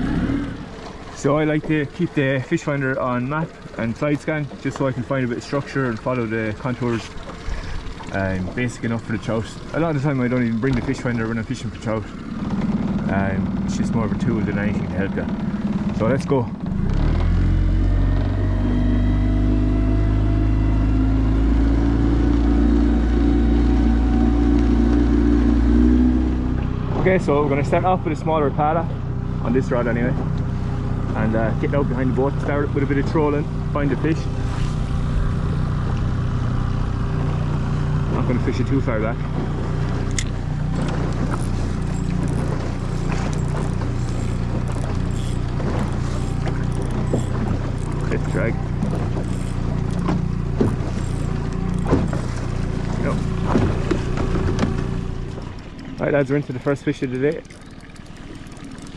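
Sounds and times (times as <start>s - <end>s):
outboard motor running: 0.0s - 58.9s.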